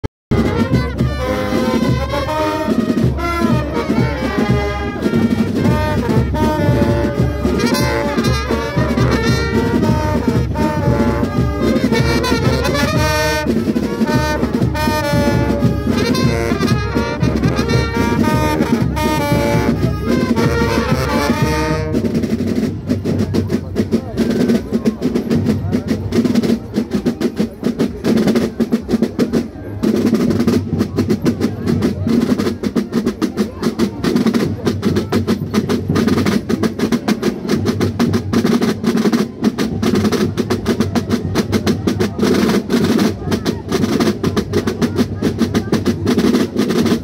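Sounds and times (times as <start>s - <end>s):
brass band playing: 0.3s - 24.8s, 33.2s - 47.0s
drums: 0.3s - 47.0s.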